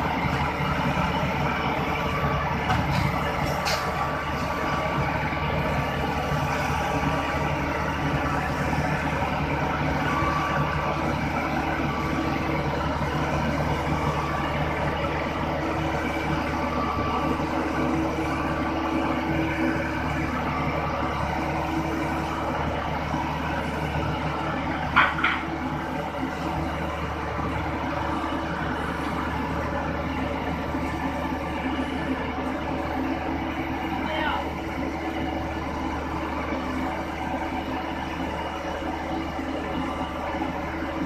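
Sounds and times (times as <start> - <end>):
heavy engine running steadily: 0.0 - 41.0.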